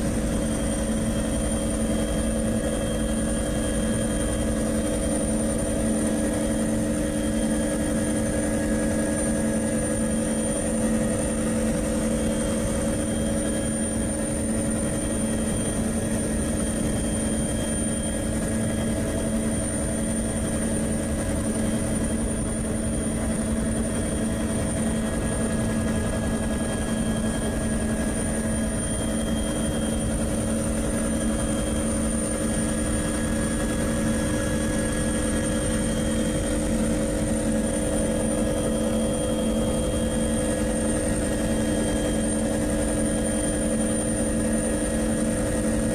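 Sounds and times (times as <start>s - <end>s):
aircraft engine drone: 0.0s - 45.9s.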